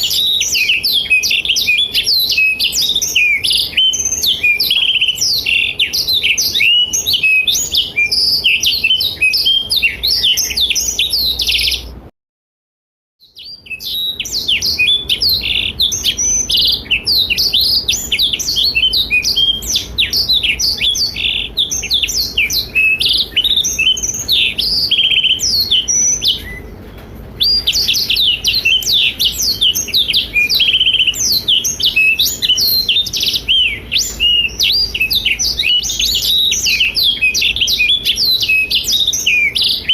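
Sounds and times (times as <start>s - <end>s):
bird singing warbling song: 0.0s - 12.1s, 13.2s - 39.9s.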